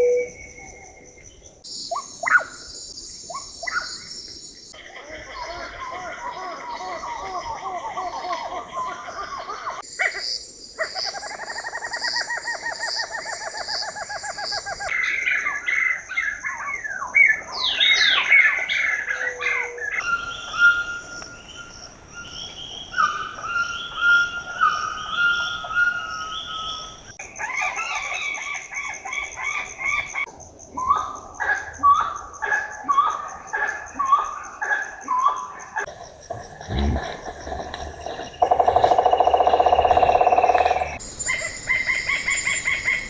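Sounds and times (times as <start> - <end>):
rainforest birds calling: 5.0 - 31.0, 34.0 - 43.0.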